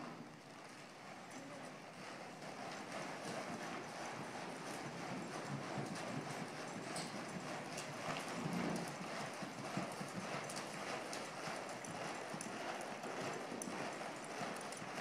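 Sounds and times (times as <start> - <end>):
hoofbeats on dirt: 2.1 - 15.0.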